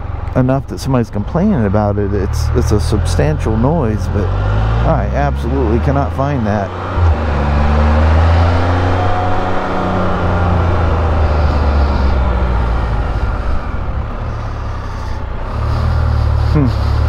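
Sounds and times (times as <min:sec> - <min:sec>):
motorcycle engine drone: 0:00.0 - 0:17.0
wind and road noise: 0:00.0 - 0:17.0.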